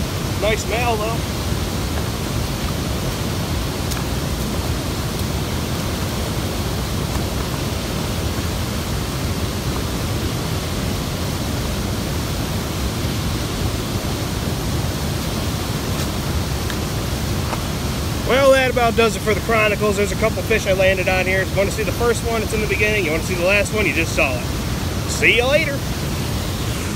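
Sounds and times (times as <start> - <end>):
river water rushing over dam: 0.0 - 26.9.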